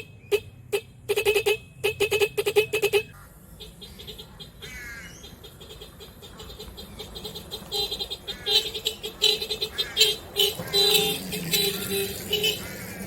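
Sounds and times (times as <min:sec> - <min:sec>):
car horns beeping notes: 0:00.0 - 0:12.6.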